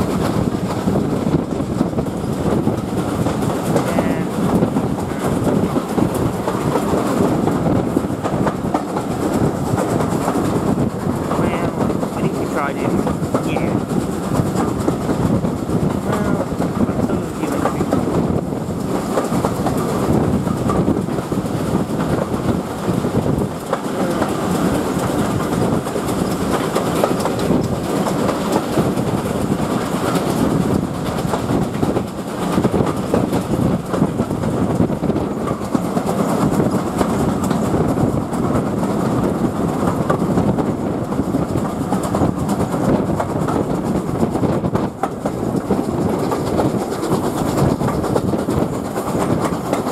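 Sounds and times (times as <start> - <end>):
rush of moving train: 0.0 - 49.9
train wheels clattering over rail joints: 0.0 - 49.9.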